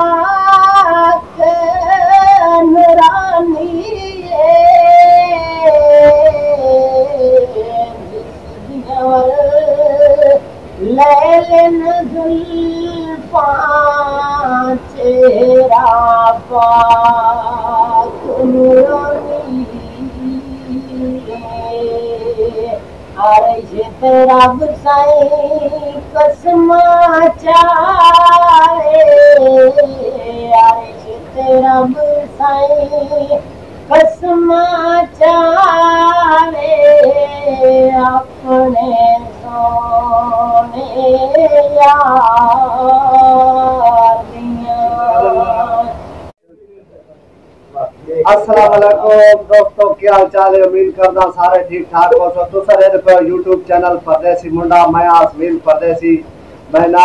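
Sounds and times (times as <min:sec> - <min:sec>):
high voice singing: 0:00.0 - 0:46.7, 0:47.7 - 0:57.0.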